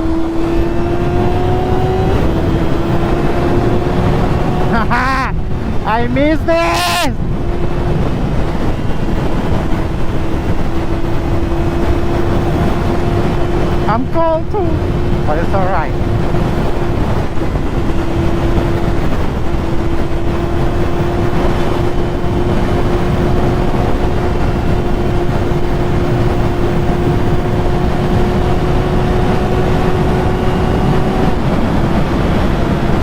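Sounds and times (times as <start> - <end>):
motorcycle engine at high revs: 0.0 - 33.0
wind rumble on microphone: 0.0 - 33.0.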